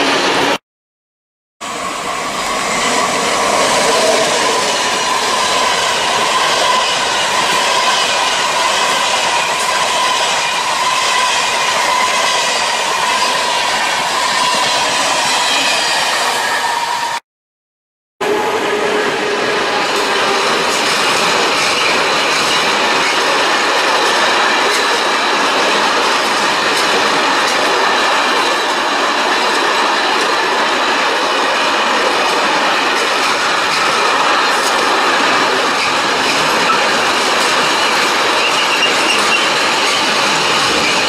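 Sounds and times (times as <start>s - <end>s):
freight train rumbling on rails: 0.0s - 0.6s, 1.6s - 17.2s, 18.2s - 41.0s.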